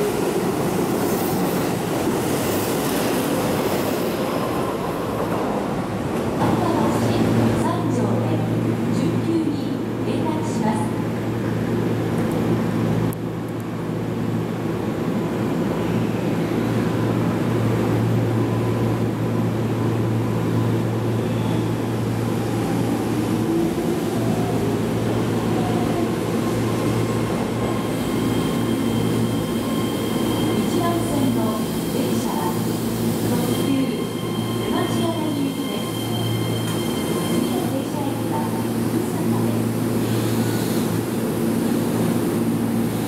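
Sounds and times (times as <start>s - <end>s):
train motors and wheels rumbling: 0.0s - 43.0s.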